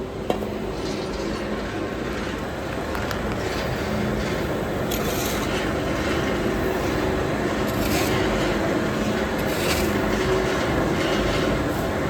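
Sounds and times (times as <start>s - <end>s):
furnace mechanical running noise: 0.0s - 12.0s.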